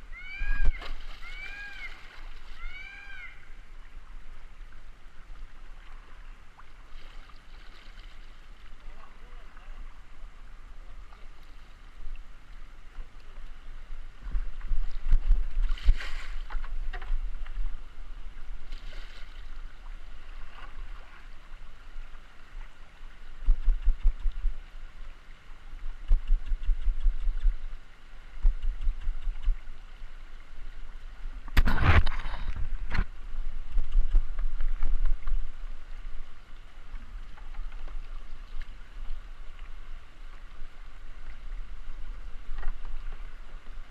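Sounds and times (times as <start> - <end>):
river water running: 0.0 - 43.9
wind rumbling on microphone: 0.0 - 43.9
paddle splashes: 0.2 - 4.5, 5.1 - 10.0, 10.8 - 17.6, 18.6 - 43.9.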